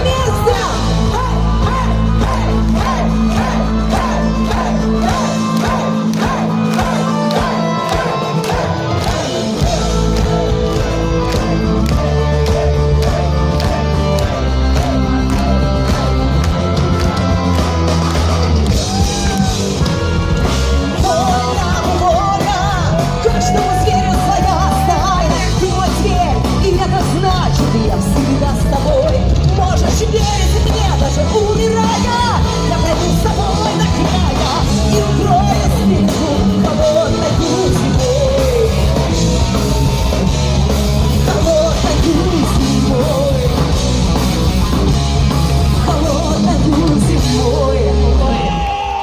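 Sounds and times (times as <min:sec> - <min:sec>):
folk metal band playing live: 0:00.0 - 0:49.0.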